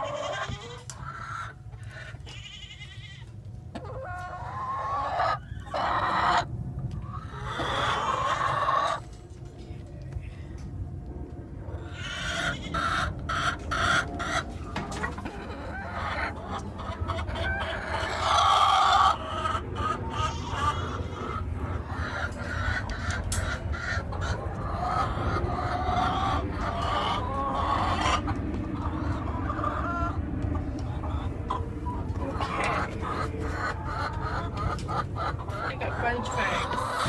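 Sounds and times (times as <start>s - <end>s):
hens clucking and squawking: 0.0s - 37.0s.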